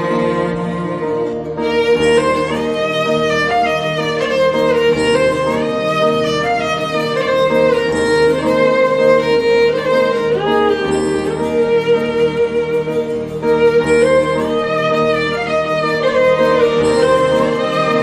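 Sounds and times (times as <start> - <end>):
bowed string melody: 0.0 - 18.0.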